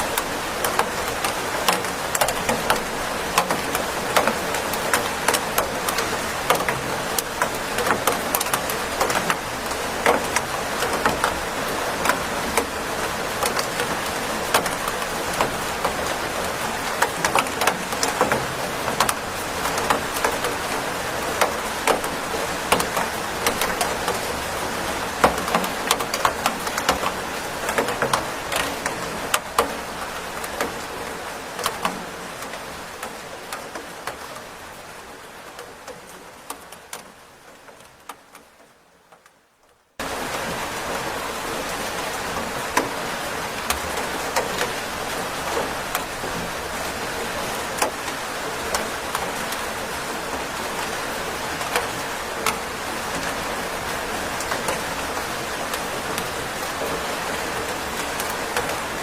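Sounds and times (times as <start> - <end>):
rain hissing: 0.0 - 59.0
raindrops tapping on surface: 0.0 - 59.0.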